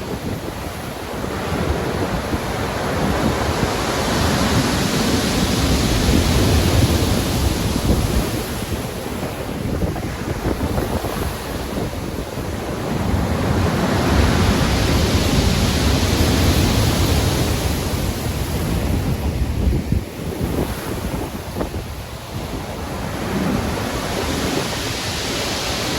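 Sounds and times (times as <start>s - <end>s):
heavy ocean waves breaking: 0.0s - 25.9s
wind buffeting microphone: 0.0s - 25.9s.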